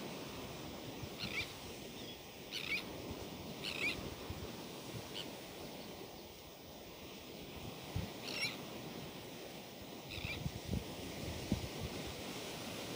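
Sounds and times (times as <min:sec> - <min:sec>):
surf and wind: 0:00.0 - 0:12.9.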